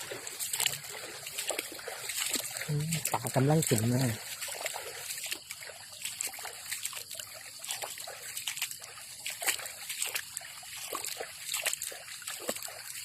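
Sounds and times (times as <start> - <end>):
floodwater trickling and splashing: 0.0 - 13.0.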